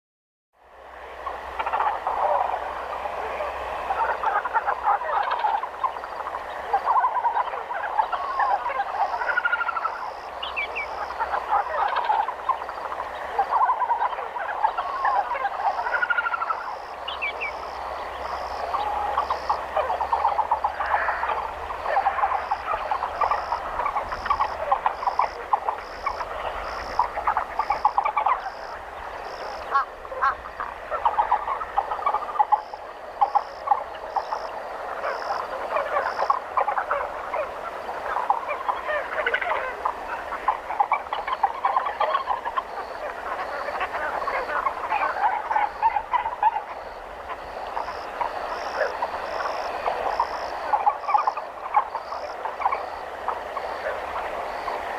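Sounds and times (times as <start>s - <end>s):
chorus of frogs croaking: 0.6s - 54.9s.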